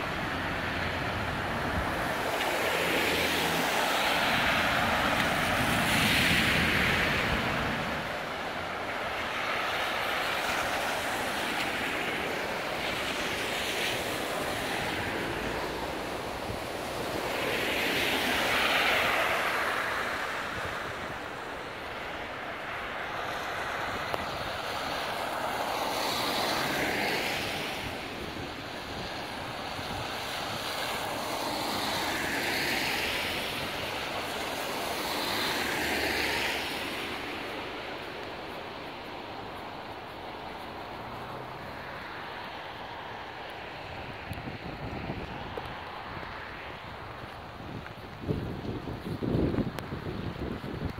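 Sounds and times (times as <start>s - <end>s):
steady rain on street: 0.0s - 50.9s
tyres hissing on wet road: 0.0s - 50.9s.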